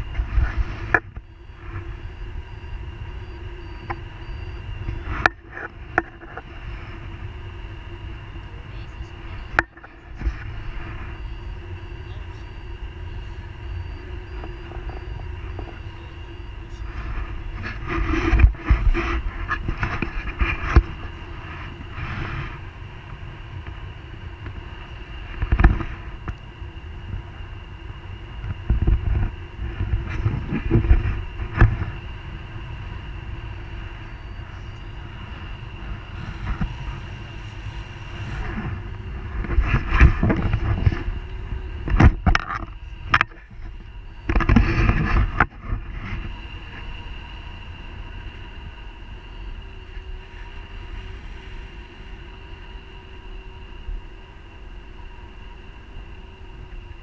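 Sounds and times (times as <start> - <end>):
wind buffeting camera microphone: 0.0 - 57.0.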